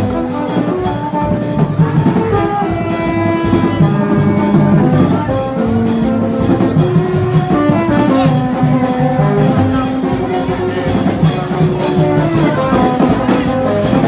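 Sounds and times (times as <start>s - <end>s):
brass instruments holding notes: 0.0s - 14.0s
drums and percussion beat: 0.0s - 14.0s.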